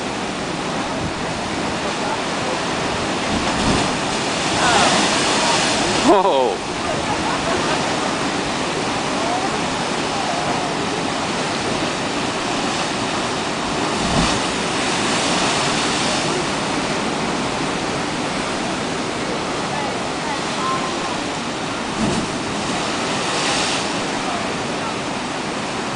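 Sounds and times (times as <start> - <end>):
surf rushing into rock crevice: 1.5 - 19.2, 20.9 - 24.8.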